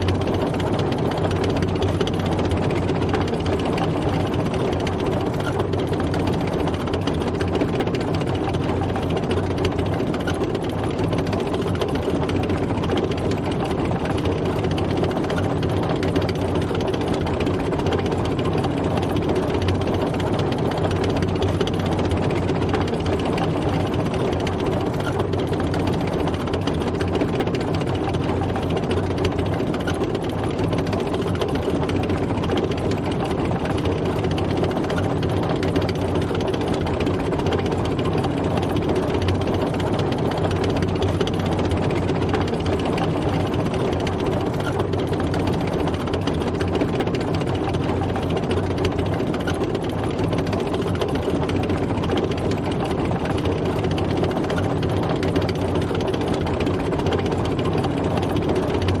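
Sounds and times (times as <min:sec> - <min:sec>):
tank engine running: 0:00.0 - 0:59.0.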